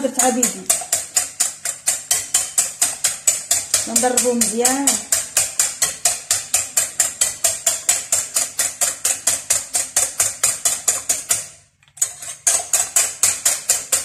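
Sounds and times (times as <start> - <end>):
whisk clicking against glass bowl: 0.0 - 11.6, 12.4 - 14.0.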